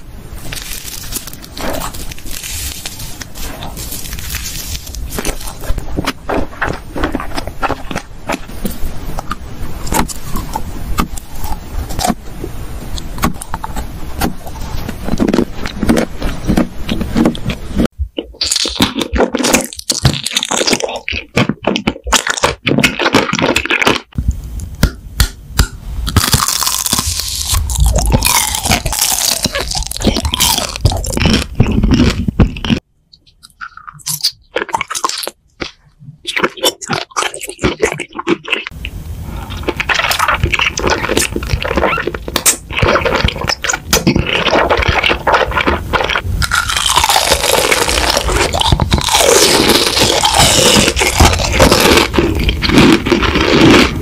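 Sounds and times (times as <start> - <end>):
crunching and chewing: 0.4 - 12.3, 12.9 - 24.2, 26.1 - 54.0.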